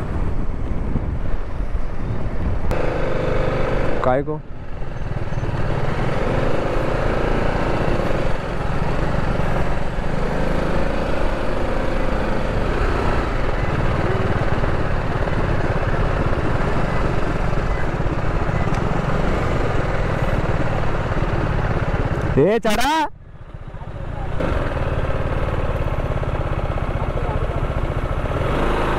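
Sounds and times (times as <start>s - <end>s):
motorcycle engine rumbling: 0.0s - 28.9s.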